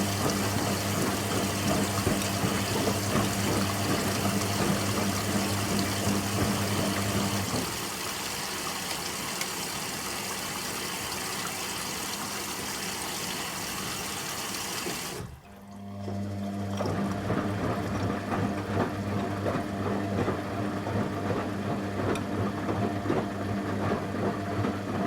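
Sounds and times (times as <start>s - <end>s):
washing machine water rushing: 0.0s - 25.0s.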